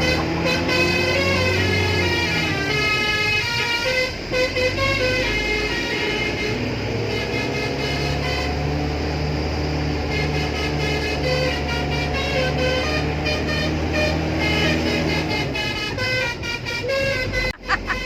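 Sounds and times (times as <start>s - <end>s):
car engine: 0.0s - 18.0s
road noise: 0.0s - 18.0s
truck musical horn tune: 0.0s - 18.0s.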